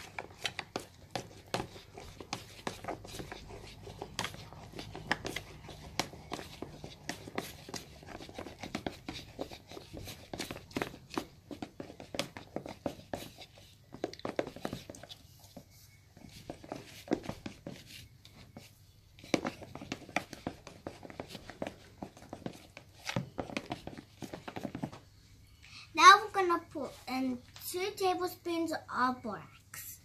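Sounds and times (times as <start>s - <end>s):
utensil stirring foamy slime: 0.0s - 25.1s.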